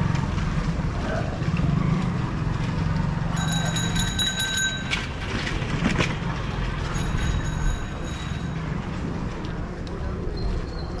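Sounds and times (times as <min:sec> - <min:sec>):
cycle rickshaw rattling and squeaking: 0:00.0 - 0:11.0
street noise: 0:00.0 - 0:11.0.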